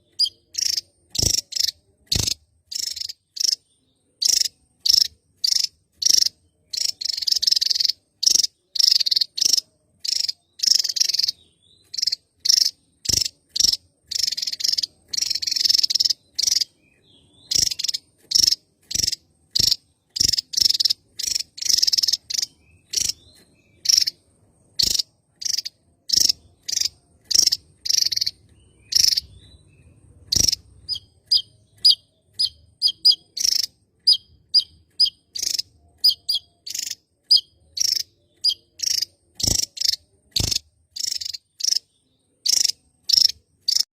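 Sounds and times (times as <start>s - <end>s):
bird singing high phrases: 0.0s - 43.9s.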